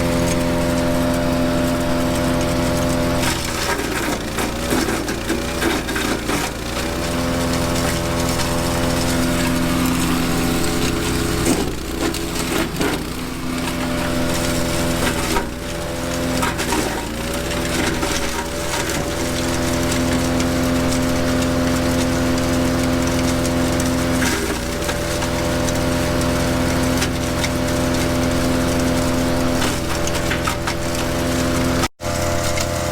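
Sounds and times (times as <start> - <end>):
branch chipper engine running: 0.0 - 32.9
splintering wood crackle: 0.1 - 32.9.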